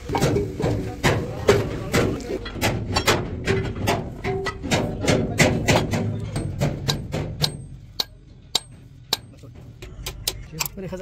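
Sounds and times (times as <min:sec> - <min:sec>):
steel rod hammering metal cylinder: 0:00.0 - 0:10.7.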